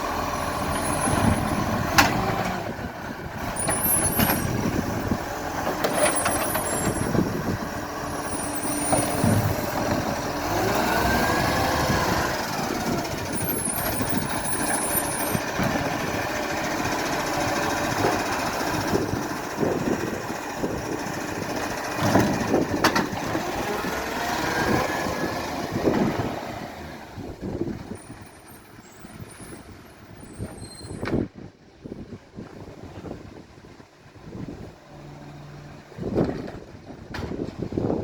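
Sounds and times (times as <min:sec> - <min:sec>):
garbage truck engine: 0:00.0 - 0:38.0.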